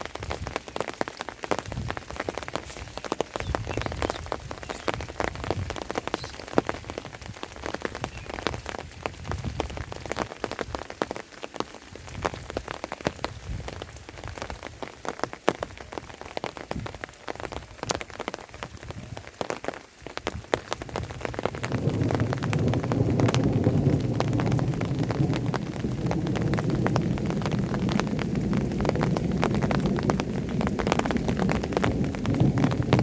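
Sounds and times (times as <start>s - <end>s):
rain drops hitting a surface: 0.0s - 33.0s
steady rain hiss: 0.0s - 33.0s.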